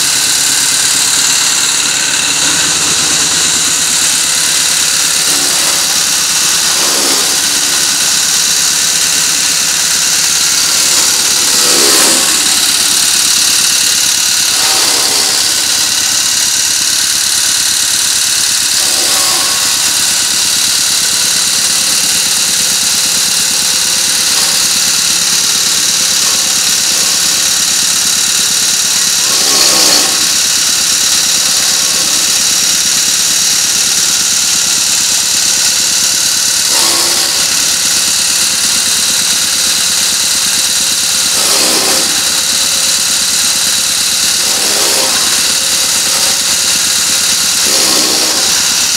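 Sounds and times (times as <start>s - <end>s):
chaff cutter chopping straw: 0.0s - 48.9s
generator engine running: 0.0s - 48.9s.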